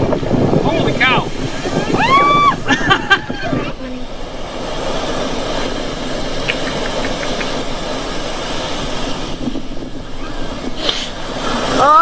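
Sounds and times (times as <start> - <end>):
heavy surf breaking: 0.0 - 12.0.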